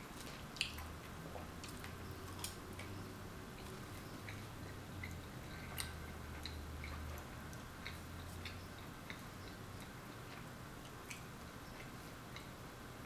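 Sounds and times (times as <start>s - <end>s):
low steady hum: 0.0s - 13.0s
person chewing: 0.1s - 3.0s, 3.6s - 12.6s.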